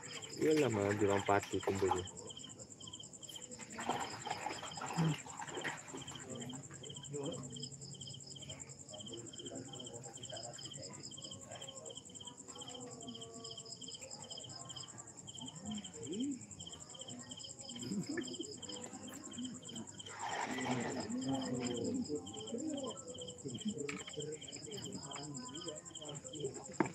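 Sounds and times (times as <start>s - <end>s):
high-pitched insect trill: 0.0s - 22.2s
crickets chirping: 0.0s - 26.9s.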